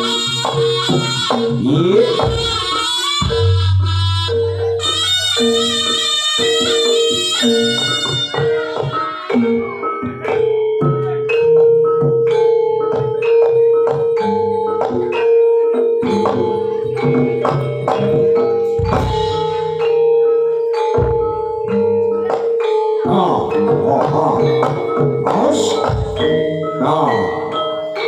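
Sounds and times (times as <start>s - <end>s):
struck metallophones ringing: 0.0s - 28.0s.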